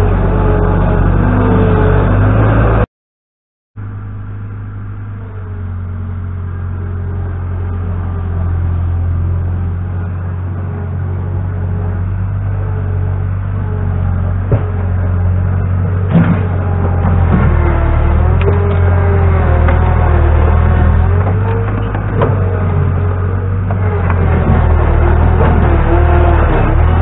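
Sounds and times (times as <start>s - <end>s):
loader engine humming: 0.0s - 2.9s, 3.8s - 27.0s.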